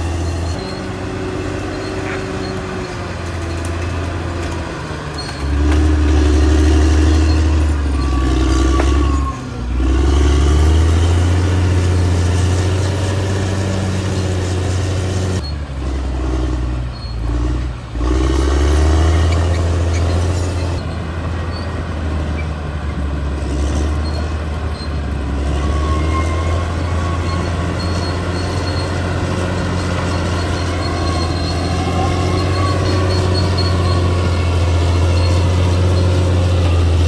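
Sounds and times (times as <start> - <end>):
bulldozer diesel engine under load: 0.0 - 37.0.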